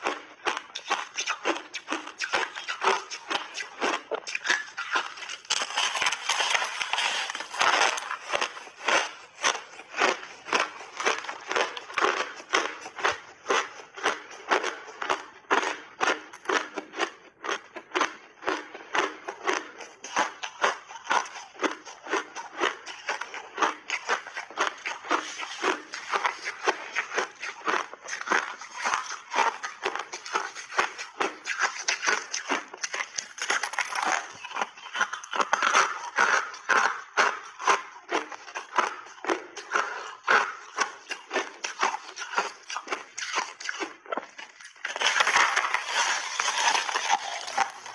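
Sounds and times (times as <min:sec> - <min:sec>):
chewing crushed ice crunches: 0:00.0 - 0:47.9.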